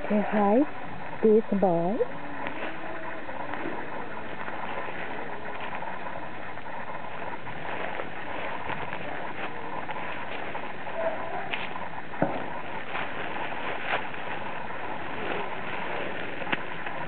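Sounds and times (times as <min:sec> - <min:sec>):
footsteps crunching dry leaves: 0:02.3 - 0:17.0.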